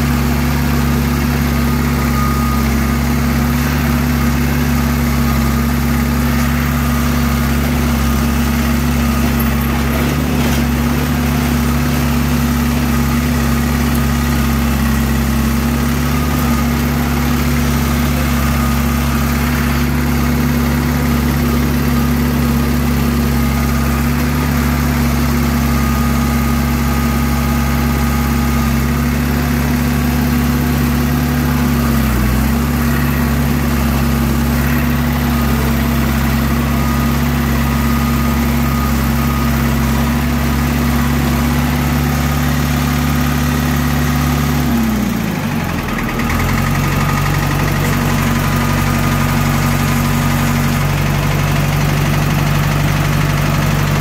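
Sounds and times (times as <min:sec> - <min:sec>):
crawler engine idling: 0:00.0 - 0:54.0.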